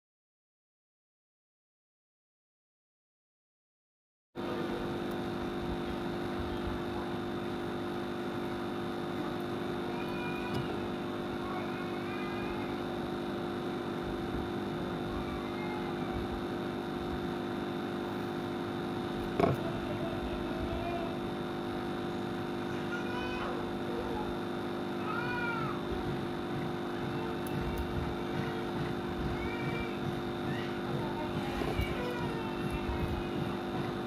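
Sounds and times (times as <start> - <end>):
electric fan motor hum: 4.4 - 34.0.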